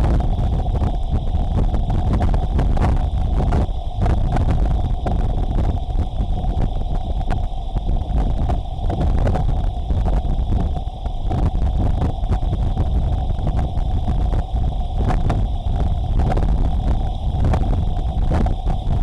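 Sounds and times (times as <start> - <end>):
crackles: 0.0 - 19.0
faint hum: 0.0 - 19.0
gusty wind buffeting microphone: 0.0 - 19.0.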